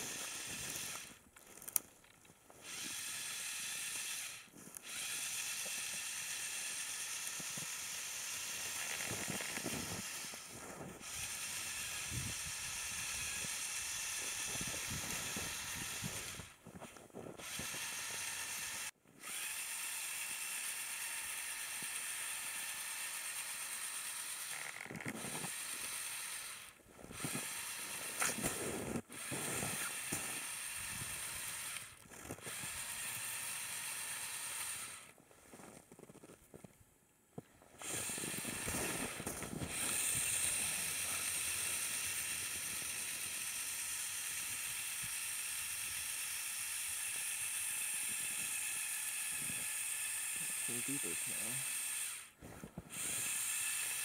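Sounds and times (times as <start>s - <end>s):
toy motors and gears whirring: 0.0s - 36.7s, 37.7s - 54.0s.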